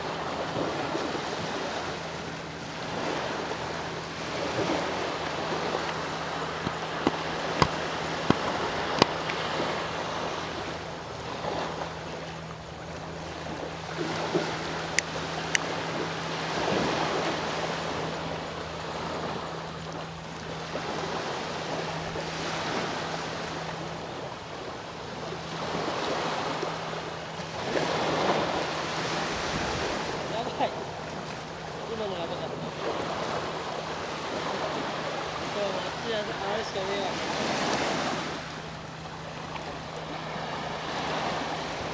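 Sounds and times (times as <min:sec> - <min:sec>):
sea waves washing ashore: 0:00.0 - 0:41.9
steady low hum: 0:00.0 - 0:41.9.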